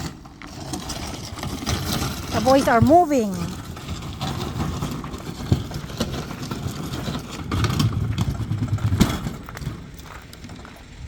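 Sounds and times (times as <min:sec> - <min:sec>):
refrigerator being moved rumbling: 0:00.0 - 0:11.0.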